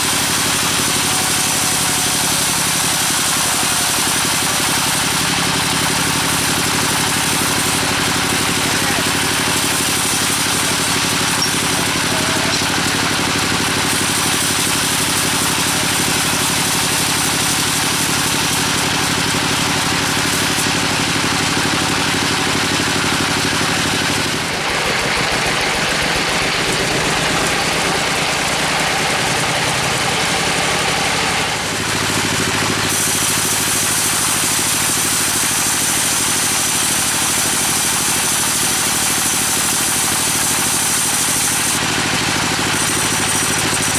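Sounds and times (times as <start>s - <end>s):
engine-driven saw running: 0.0s - 43.9s.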